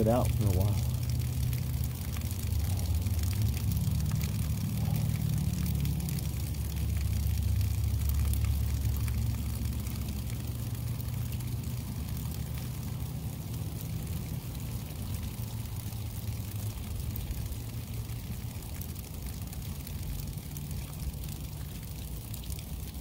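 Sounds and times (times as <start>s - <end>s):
rain falling and dripping: 0.0s - 23.0s.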